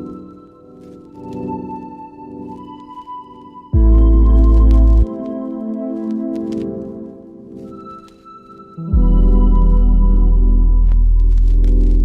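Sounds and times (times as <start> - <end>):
slow ambient synth chords: 0.0 - 12.0.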